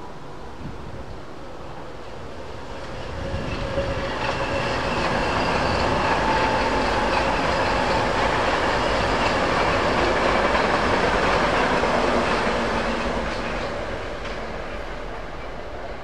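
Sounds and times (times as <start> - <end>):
train passing close by: 0.0 - 16.0.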